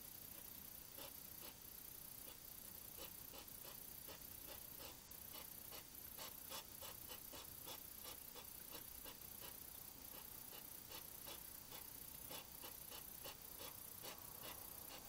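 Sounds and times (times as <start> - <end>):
hedgehog chewing food: 2.2 - 15.0.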